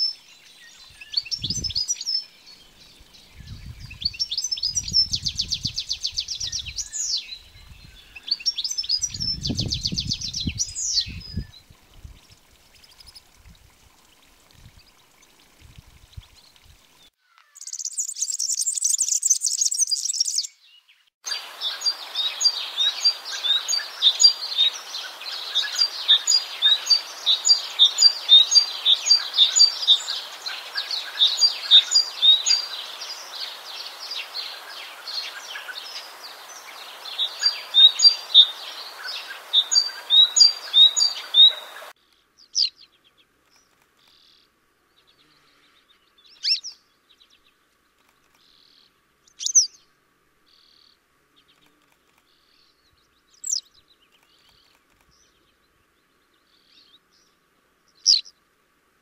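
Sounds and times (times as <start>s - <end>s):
songbirds chirping: 0.0s - 58.7s.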